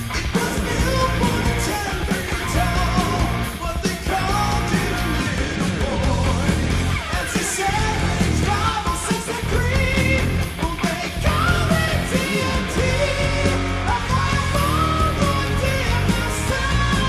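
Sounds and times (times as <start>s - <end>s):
live heavy metal band: 0.0s - 17.0s.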